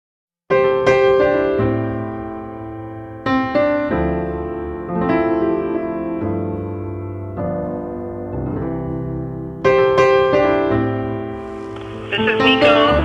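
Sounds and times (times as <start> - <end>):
slow piano piece: 0.5 - 13.0.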